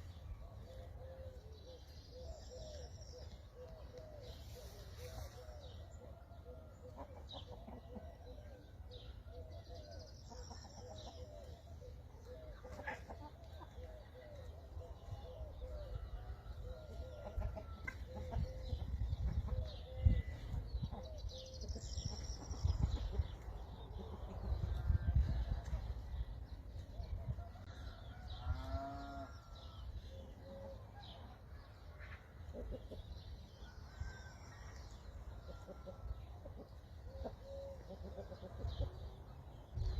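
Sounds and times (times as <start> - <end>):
chickens clucking: 2.8 - 29.6, 30.2 - 34.0, 34.6 - 39.9.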